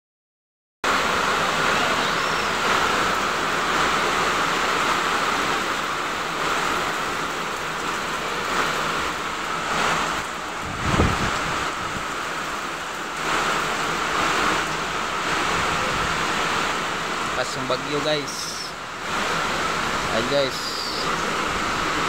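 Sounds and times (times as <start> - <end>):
heavy rain pouring: 0.8 - 22.0.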